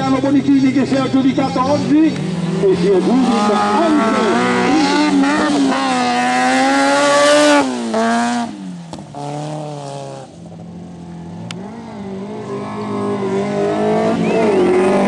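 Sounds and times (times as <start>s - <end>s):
distant racing car engines: 0.0s - 15.0s
racing car engine passing: 0.5s - 15.0s.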